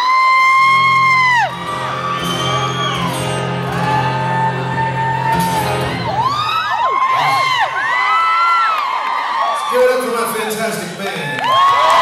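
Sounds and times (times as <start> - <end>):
audience screaming and whooping: 0.0 - 12.0.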